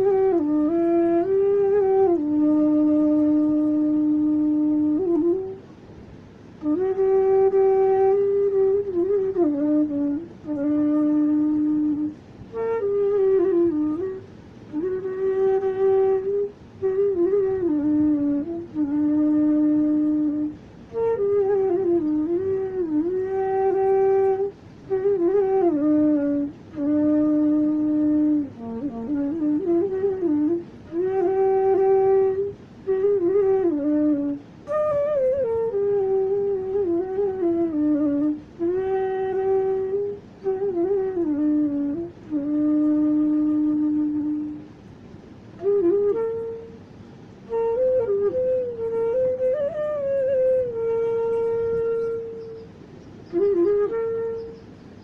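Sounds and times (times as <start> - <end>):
solo flute melody: 0.0 - 55.0.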